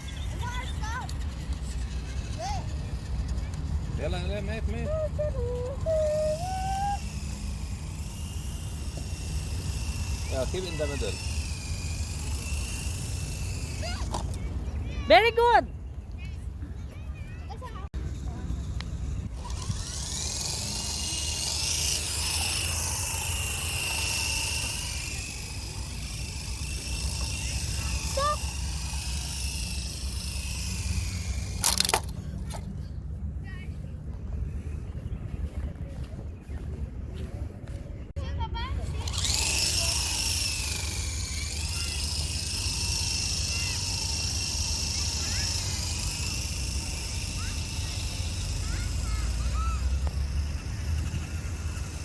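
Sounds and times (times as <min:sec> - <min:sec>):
toy helicopter motor whining: 0:00.0 - 0:15.6, 0:17.2 - 0:32.8, 0:38.6 - 0:52.0.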